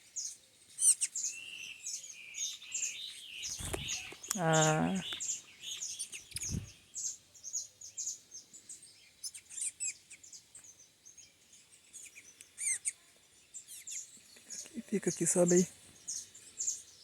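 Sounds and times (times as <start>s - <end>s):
small songbird chirping: 0.0s - 17.0s.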